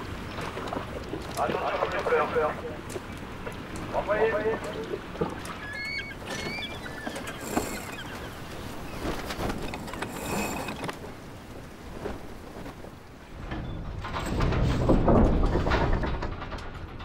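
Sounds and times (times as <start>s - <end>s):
water noise: 0.0s - 16.4s
wind: 0.0s - 17.0s.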